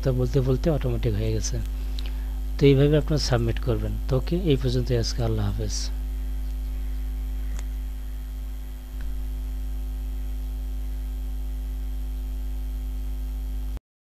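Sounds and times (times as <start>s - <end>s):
electrical mains hum: 0.0s - 13.8s.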